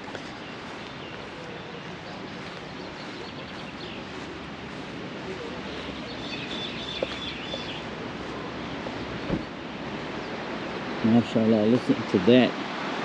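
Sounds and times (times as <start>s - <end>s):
bird chirping: 0.2s - 10.7s
river rapids rushing: 1.3s - 13.0s.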